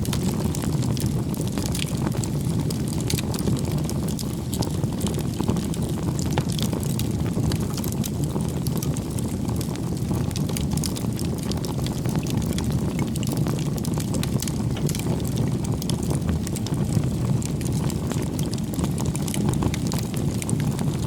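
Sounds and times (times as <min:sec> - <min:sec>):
campfire flames rushing: 0:00.0 - 0:21.0
fire crackling and popping: 0:00.0 - 0:21.0.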